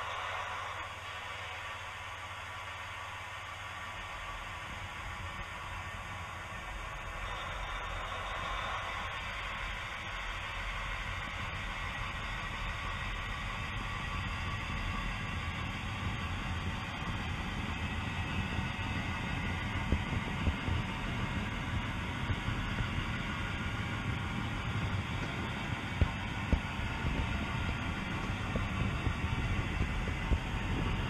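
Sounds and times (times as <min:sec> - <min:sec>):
model train running on track: 0:00.0 - 0:31.0.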